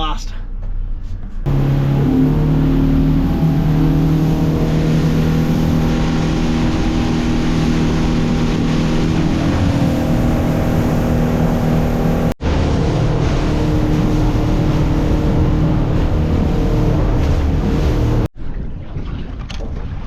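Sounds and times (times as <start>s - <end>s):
boat motor droning: 1.5s - 18.3s
broad rushing noise: 1.5s - 18.3s.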